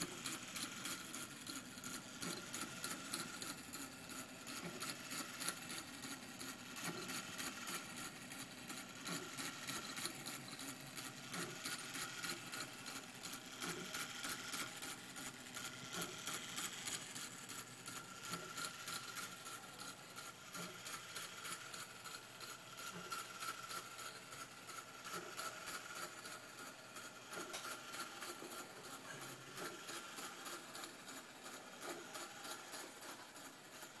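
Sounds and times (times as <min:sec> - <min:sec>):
clock movement clicking: 0:00.0 - 0:34.0.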